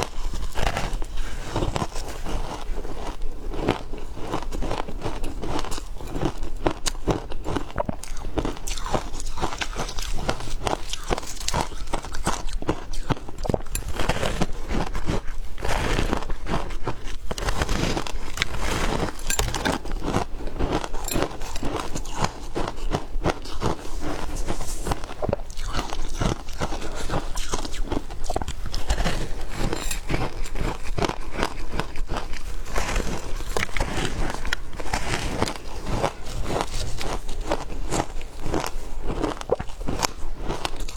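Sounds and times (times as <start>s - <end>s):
shaved ice being chewed: 0.0s - 40.9s.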